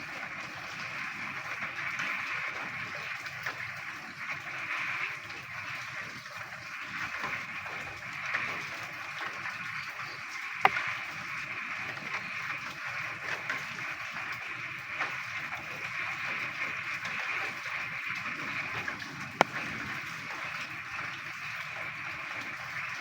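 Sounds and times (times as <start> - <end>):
rain: 0.0 - 23.0.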